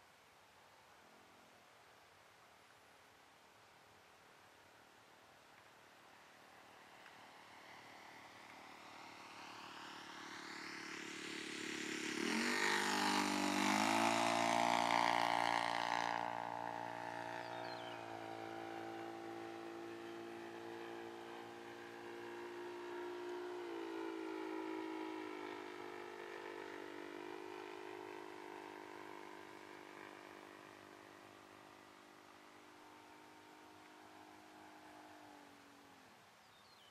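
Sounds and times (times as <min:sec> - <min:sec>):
model airplane engine droning: 0:06.0 - 0:36.9.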